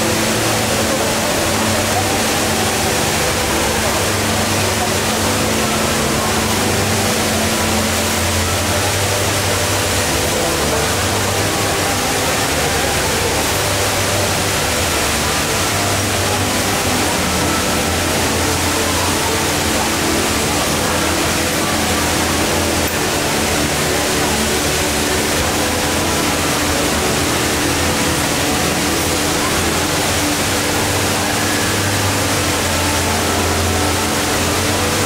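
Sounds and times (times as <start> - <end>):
waterfall pouring into basin: 0.0 - 35.0.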